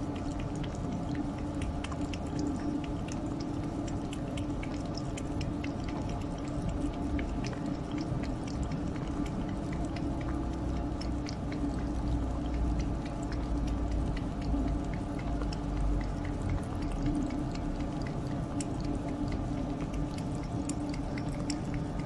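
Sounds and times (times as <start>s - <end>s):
cat lapping from metal tin: 0.0s - 22.0s
steady low hum: 0.0s - 22.0s.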